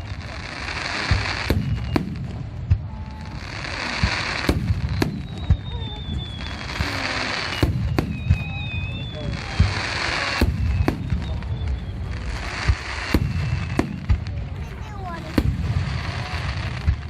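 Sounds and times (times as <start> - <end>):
firework shells booming: 0.0 - 17.0
fireworks crackling: 0.0 - 17.0.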